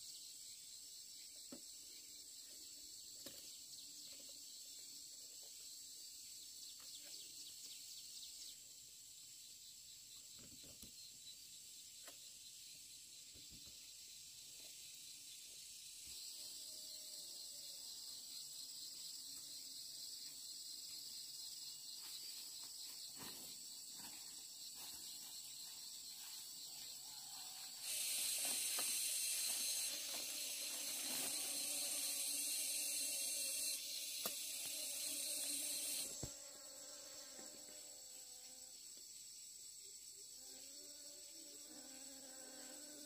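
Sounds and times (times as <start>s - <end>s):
high-pitched insect chorus: 0.0s - 43.0s
loud hissing insect call: 0.0s - 43.0s.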